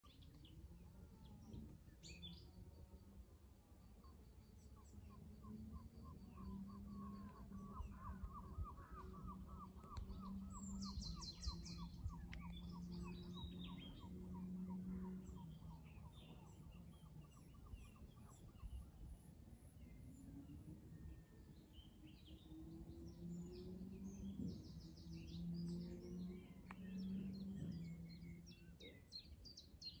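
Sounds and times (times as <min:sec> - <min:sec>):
faint low drone: 0:00.0 - 0:30.0
songbirds singing and calling: 0:00.0 - 0:30.0.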